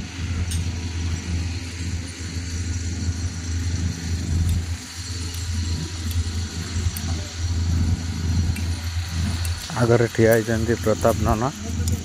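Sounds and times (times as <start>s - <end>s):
train engine humming: 0.0s - 12.0s.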